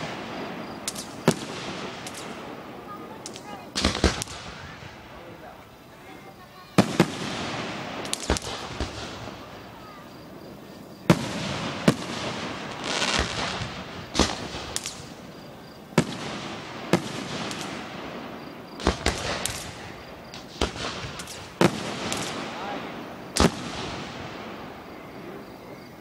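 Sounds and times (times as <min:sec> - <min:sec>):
firework bangs: 0:00.0 - 0:26.0
fireworks crackling and hissing: 0:00.0 - 0:26.0.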